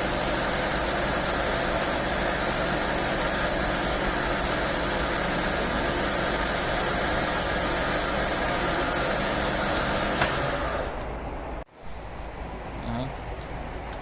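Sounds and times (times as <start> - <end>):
milling machine whirring: 0.0 - 11.6.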